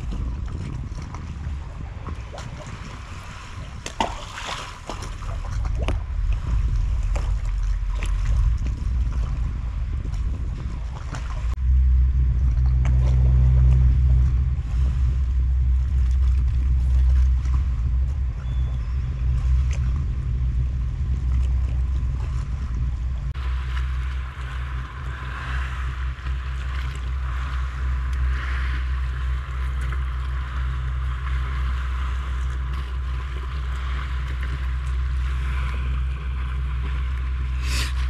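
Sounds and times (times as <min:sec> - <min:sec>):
boat engine humming: 0:00.0 - 0:38.0.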